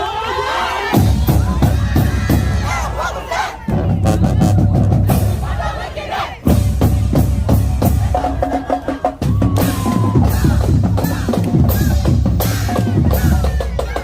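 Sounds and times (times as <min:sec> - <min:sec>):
marching band playing: 0:00.0 - 0:14.0
drums beating: 0:00.8 - 0:14.0.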